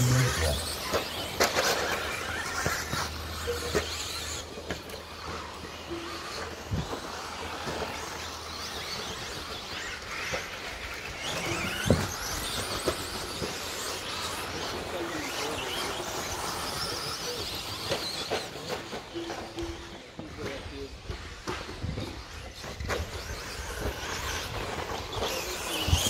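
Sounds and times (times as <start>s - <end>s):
rc truck motors whining: 0.0s - 26.0s.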